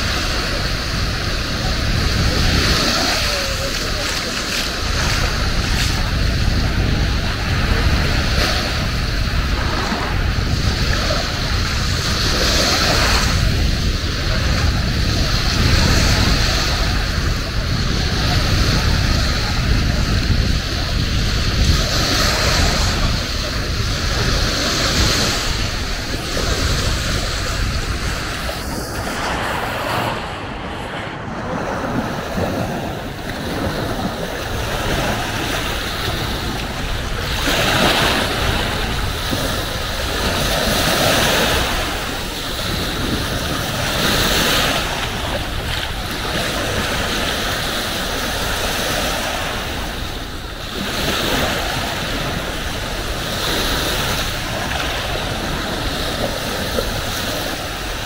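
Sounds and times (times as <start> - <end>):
waves washing onto beach: 0.0 - 58.0
wind on microphone: 0.0 - 58.0.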